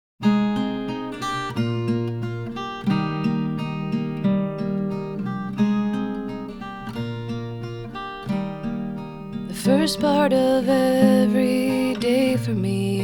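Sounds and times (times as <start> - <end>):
acoustic guitar strumming: 0.2 - 13.0.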